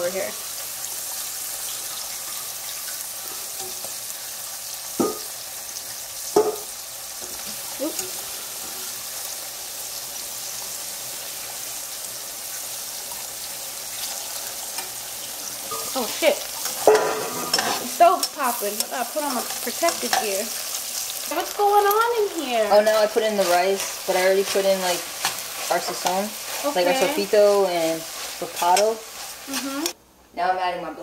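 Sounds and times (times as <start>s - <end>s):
plantains sizzling in oil: 0.0s - 30.0s.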